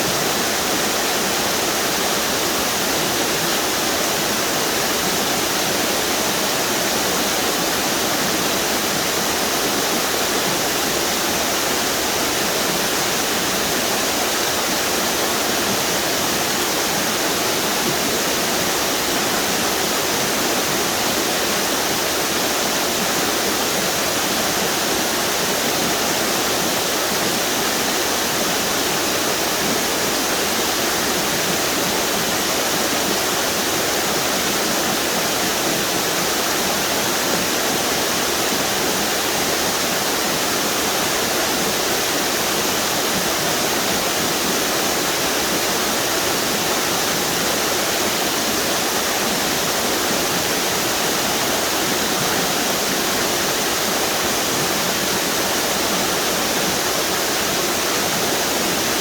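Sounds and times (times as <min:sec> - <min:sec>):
waterfalls roaring over rocks: 0:00.0 - 0:59.0.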